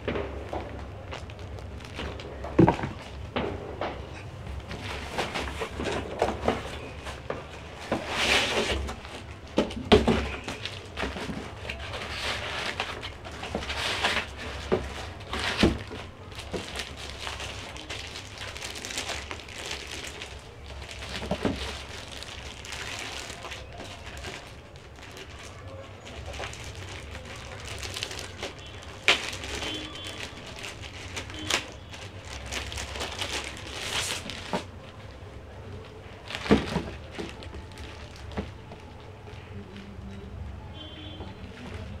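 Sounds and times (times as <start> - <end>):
packaging rustling and scraping: 0.0 - 40.3.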